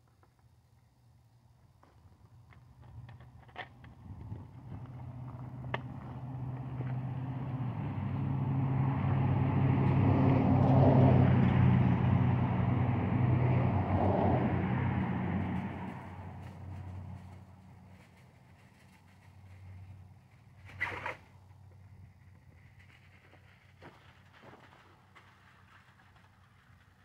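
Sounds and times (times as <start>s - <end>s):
vehicle engine hum and road noise: 1.7s - 27.0s.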